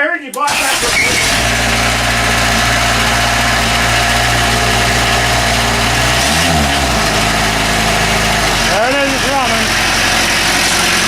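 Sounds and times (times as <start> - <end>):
diesel engine idling: 0.5 - 11.0.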